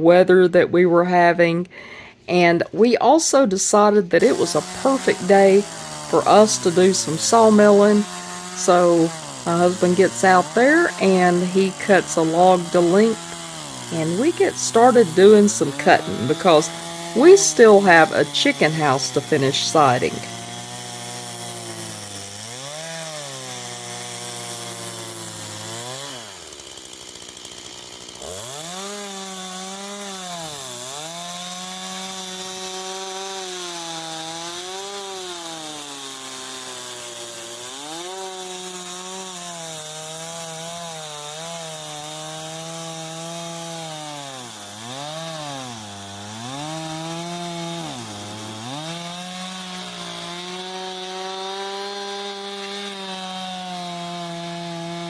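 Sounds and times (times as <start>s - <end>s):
chainsaw cutting a log: 3.2s - 55.0s.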